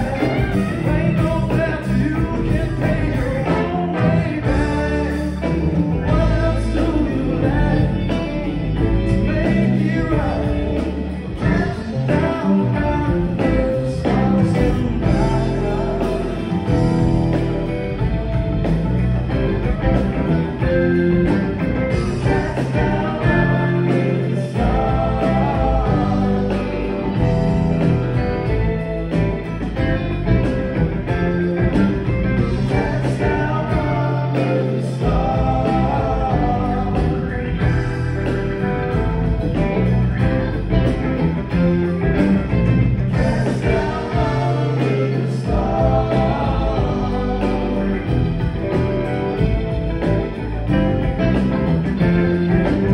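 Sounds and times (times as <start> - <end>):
lead vocalist singing: 0.0 - 18.1, 19.3 - 28.8, 29.7 - 40.9, 41.5 - 49.5
live rock band playing: 0.0 - 52.9.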